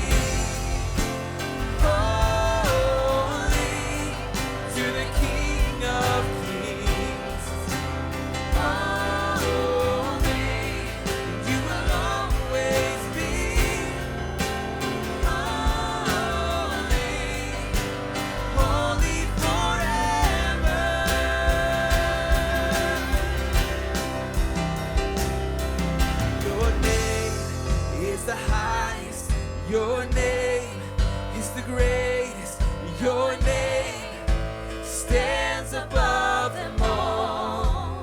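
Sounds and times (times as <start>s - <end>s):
voices singing long notes: 0.0s - 29.0s, 32.9s - 38.0s
live worship band playing: 0.0s - 38.0s.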